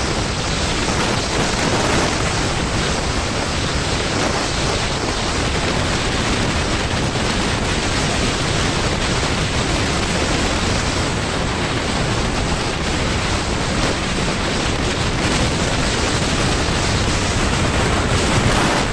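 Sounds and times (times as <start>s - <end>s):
loud rushing noise: 0.0s - 18.9s.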